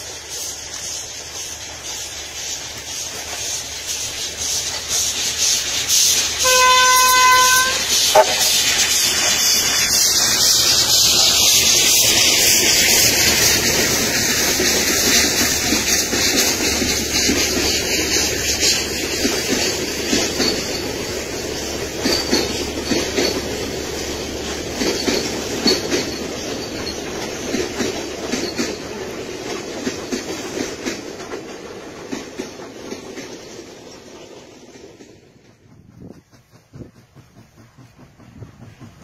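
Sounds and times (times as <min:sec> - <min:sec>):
train wheels clattering over rail joints: 0:00.0 - 0:39.0.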